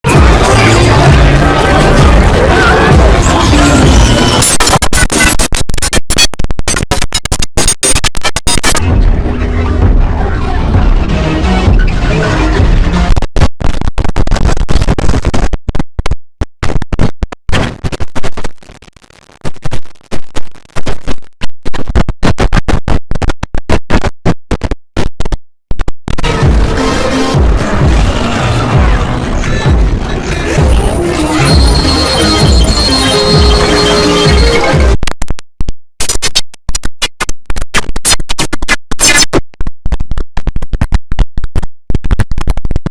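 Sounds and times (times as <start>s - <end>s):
chopped stuttering computer sound: 0.1s - 42.9s.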